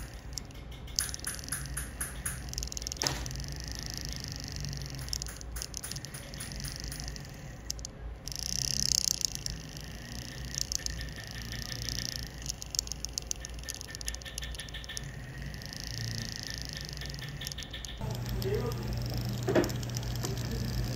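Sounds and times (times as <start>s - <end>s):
metal tool clicking and scratching: 0.0s - 20.9s.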